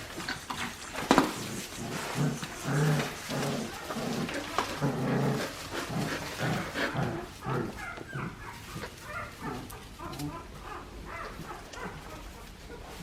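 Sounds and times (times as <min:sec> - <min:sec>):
puppies yipping and whimpering: 0:00.0 - 0:13.0.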